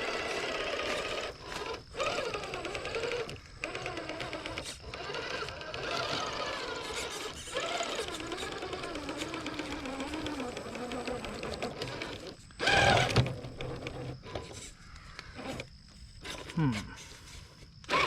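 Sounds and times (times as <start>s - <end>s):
electric motor whining: 0.0s - 14.8s, 15.4s - 16.8s
small ticks: 0.8s - 18.0s.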